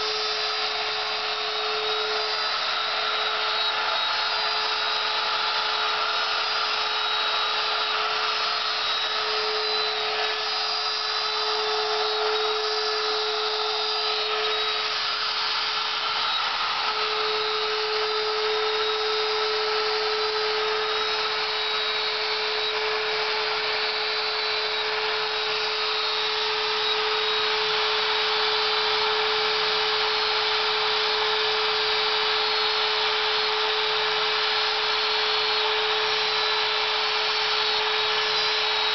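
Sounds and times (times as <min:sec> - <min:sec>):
hiss of wood cutting: 0:00.0 - 0:38.9
router spindle high whine: 0:00.0 - 0:38.9.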